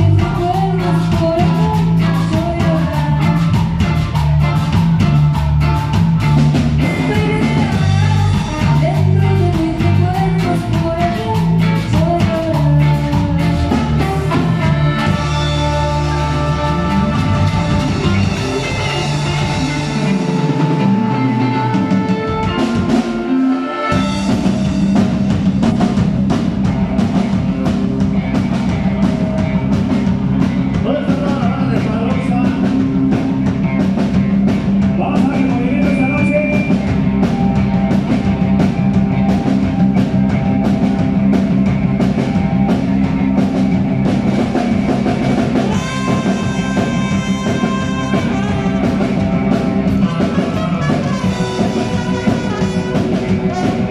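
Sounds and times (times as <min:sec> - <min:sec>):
band music with drums and bass: 0:00.0 - 0:53.9.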